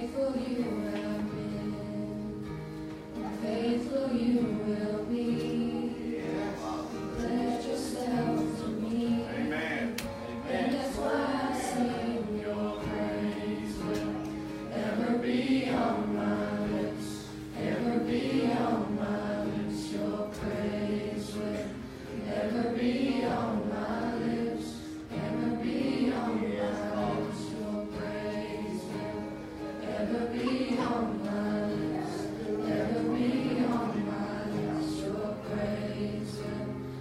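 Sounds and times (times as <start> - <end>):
church singers: 0.0 - 37.0.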